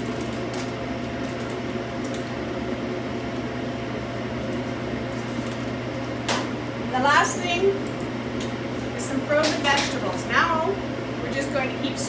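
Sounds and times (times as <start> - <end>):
kitchen machinery humming: 0.0 - 12.0.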